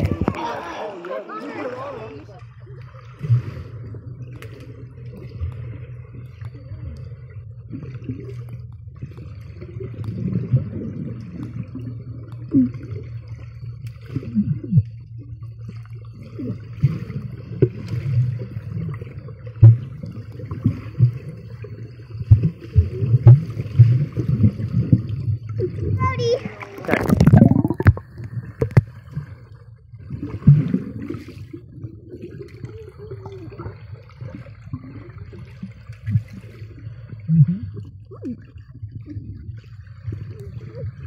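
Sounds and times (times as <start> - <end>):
bubbles gurgling and popping: 0.0 - 1.2, 2.0 - 41.0
low underwater hum: 0.0 - 41.0.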